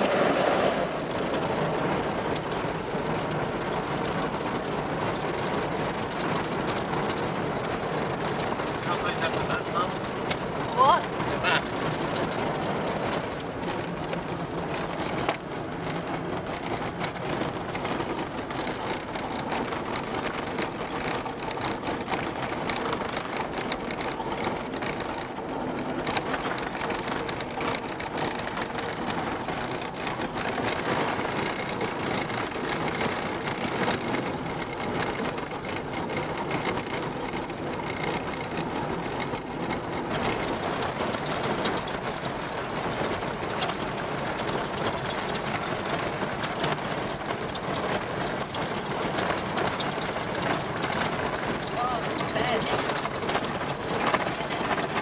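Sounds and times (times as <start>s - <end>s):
tyre and road noise: 0.0s - 55.0s
vehicle engine running: 0.0s - 55.0s
rattling: 0.9s - 55.0s.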